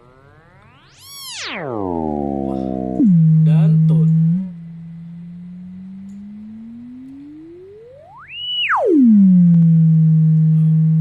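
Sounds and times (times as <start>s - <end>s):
gliding sine tone: 0.0s - 11.0s.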